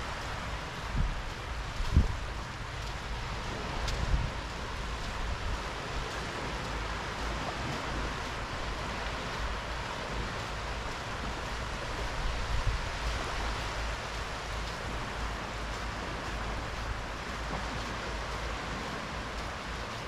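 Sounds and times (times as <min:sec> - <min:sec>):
gentle sea waves on sandy shore: 0:00.0 - 0:20.0.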